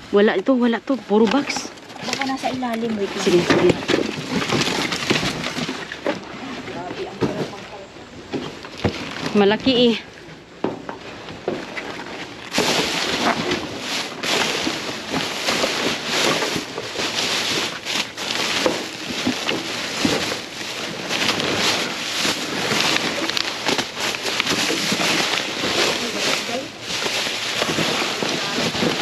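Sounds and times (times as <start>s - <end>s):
plastic bags crinkling: 0.1s - 10.1s, 10.9s - 29.0s.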